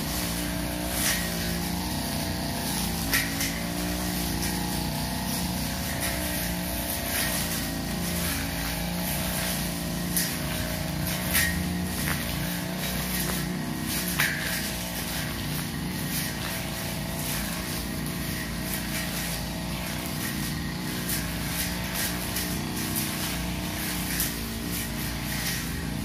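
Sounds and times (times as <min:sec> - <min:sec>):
blade cutting grass: 0:00.0 - 0:26.0
brush cutter engine running: 0:00.0 - 0:26.0.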